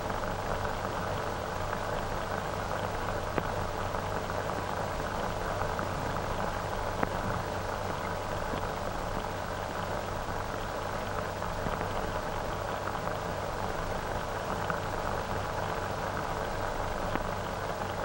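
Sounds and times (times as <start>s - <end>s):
film soundtrack hiss and crackle: 0.0s - 18.0s.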